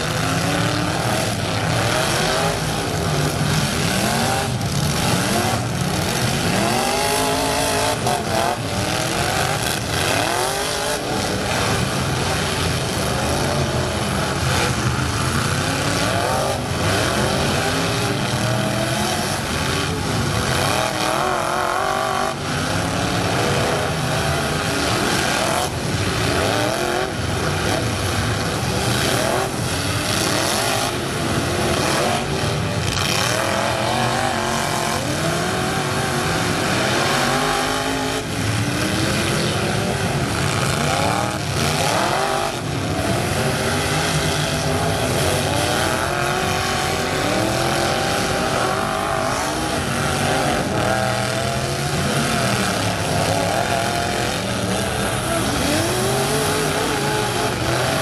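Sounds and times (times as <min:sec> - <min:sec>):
truck engines revving: 0:00.0 - 0:58.0.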